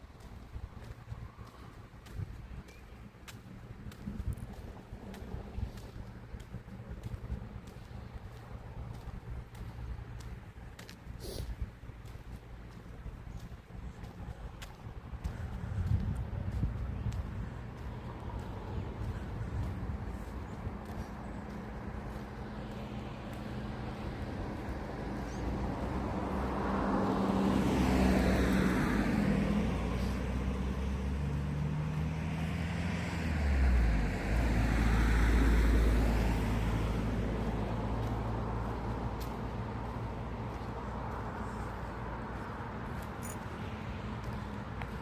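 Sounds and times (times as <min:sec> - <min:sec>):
deep engine rumble: 0:00.0 - 0:45.0
vehicles driving past: 0:00.0 - 0:45.0.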